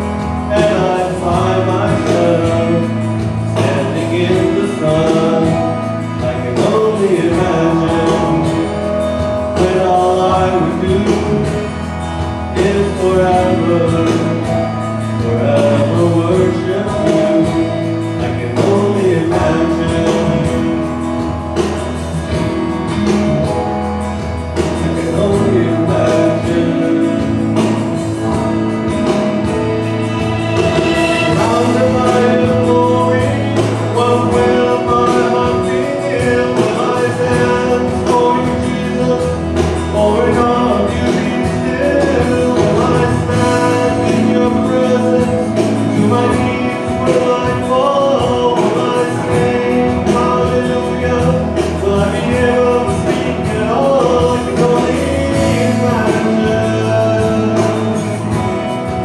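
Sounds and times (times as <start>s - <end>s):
man singing into microphone: 0.0s - 22.6s, 24.6s - 29.6s, 30.2s - 59.0s
instrumental accompaniment: 0.0s - 59.0s.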